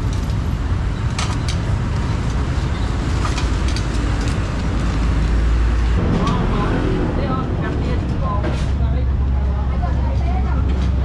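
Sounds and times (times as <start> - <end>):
low rumble of motor traffic: 0.0 - 11.0.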